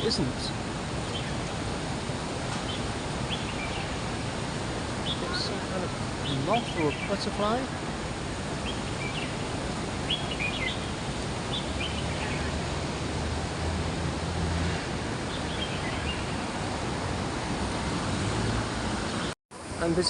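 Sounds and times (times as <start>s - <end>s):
outdoor park din: 0.0s - 20.0s.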